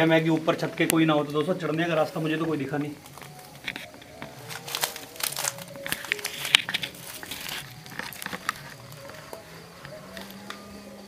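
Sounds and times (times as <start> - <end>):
crinkling rustle: 0.0 - 11.0.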